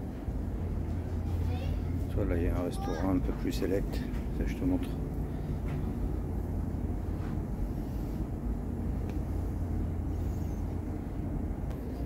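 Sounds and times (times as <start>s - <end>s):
ferry machinery rumbling: 0.0s - 12.0s.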